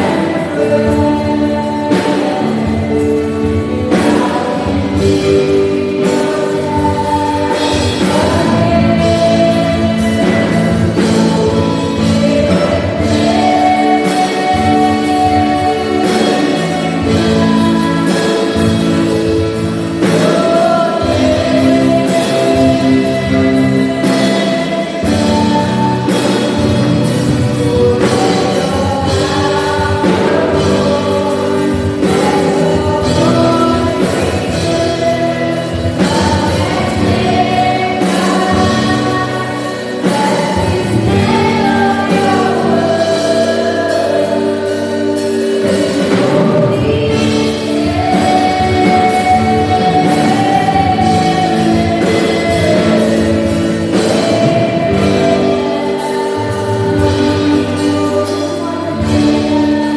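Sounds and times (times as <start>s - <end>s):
group singing gospel song: 0.0s - 59.9s
live band playing: 0.0s - 59.9s.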